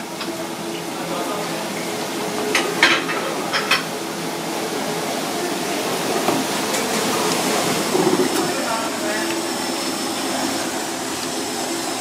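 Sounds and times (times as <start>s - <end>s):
kitchen ventilation hum: 0.0s - 12.0s.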